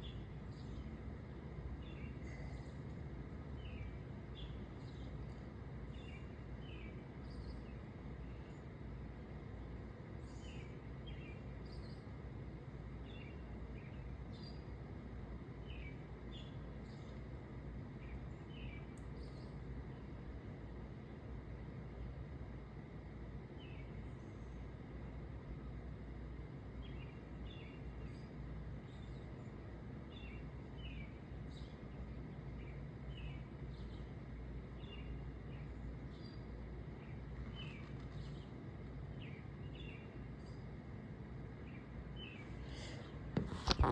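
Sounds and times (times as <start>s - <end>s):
low outdoor background rumble: 0.0s - 43.9s.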